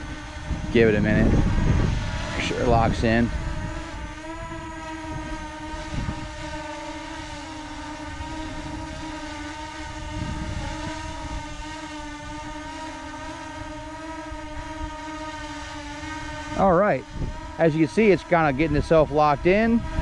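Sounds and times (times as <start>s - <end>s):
drone propellers whining: 0.0s - 20.0s
wind buffeting microphone: 0.0s - 20.0s.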